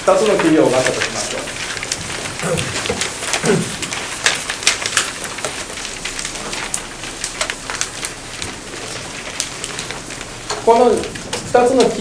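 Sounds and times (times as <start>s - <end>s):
crackling with sharp clicks: 0.0s - 12.0s.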